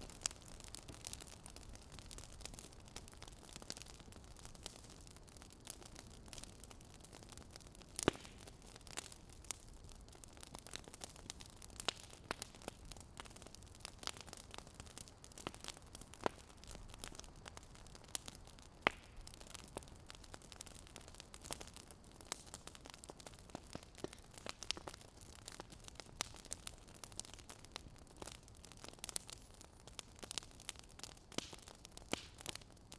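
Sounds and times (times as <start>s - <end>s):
faint steady hiss: 0.0s - 32.9s
fire crackling: 0.0s - 32.9s.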